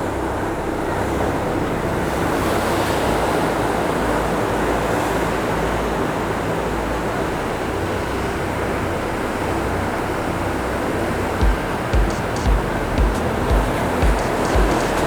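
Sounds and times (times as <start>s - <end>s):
waves breaking against a pier: 0.0s - 15.0s.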